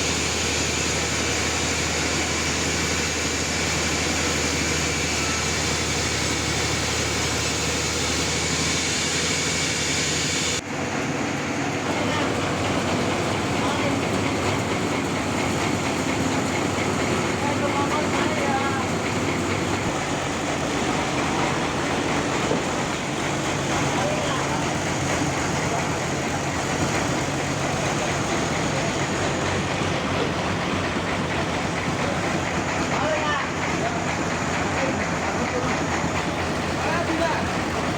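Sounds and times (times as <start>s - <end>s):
high steady whine: 0.0s - 34.0s
sawmill engine hum: 0.0s - 37.9s.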